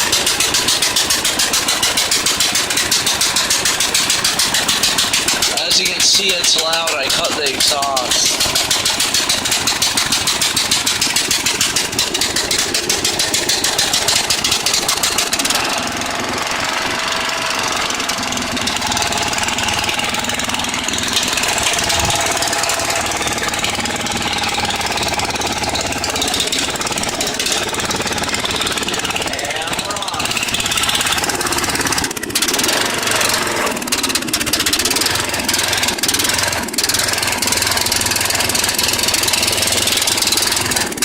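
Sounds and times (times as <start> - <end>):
lawn mower engine popping: 0.0 - 41.0.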